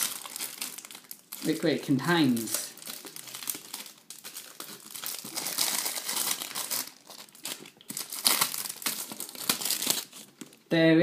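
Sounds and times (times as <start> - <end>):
plastic wrapping crinkling and tearing: 0.0 - 10.6.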